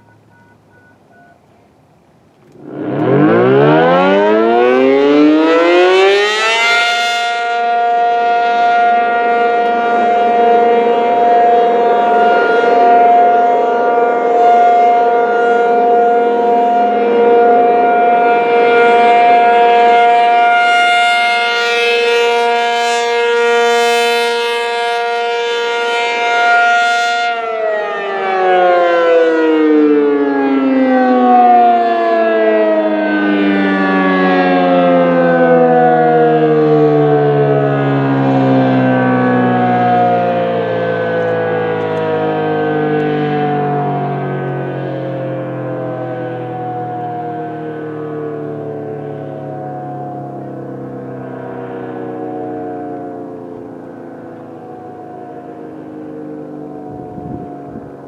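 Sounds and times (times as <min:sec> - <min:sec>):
outdoor warning siren: 0:00.0 - 0:58.0.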